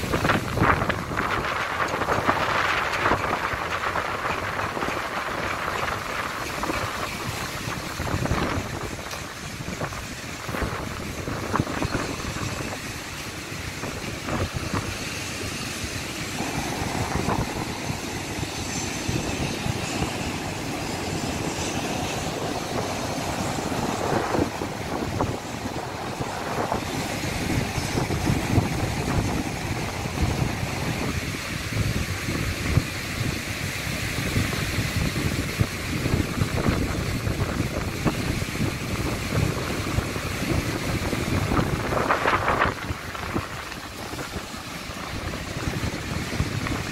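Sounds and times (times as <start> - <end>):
heavy surf breaking: 0.0 - 46.9
wind buffeting microphone: 0.0 - 46.9.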